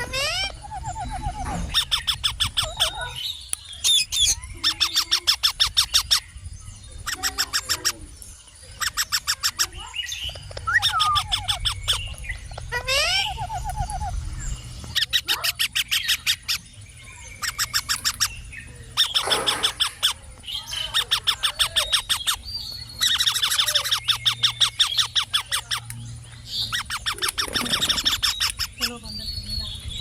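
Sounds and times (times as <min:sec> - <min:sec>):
parakeet chattering: 0:00.0 - 0:30.0.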